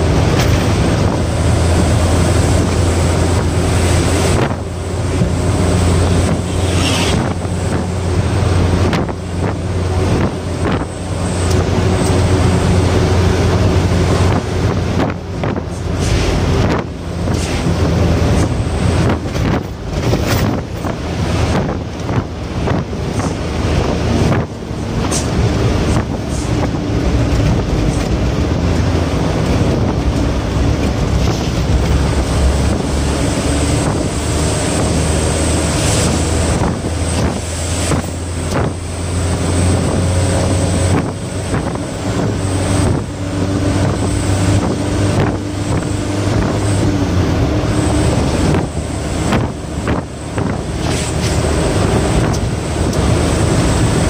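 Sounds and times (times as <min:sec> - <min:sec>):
road and wind noise: 0:00.0 - 0:54.0
truck engine running hard: 0:00.0 - 0:54.0.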